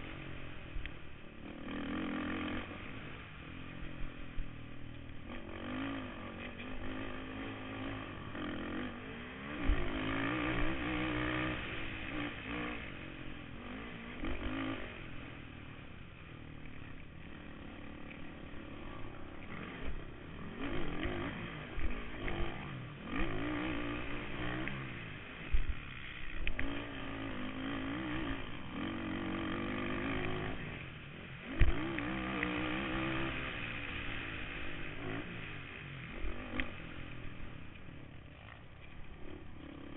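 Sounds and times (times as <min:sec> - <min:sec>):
quad engine revving: 0:01.4 - 0:04.3, 0:05.2 - 0:15.8, 0:16.6 - 0:39.9.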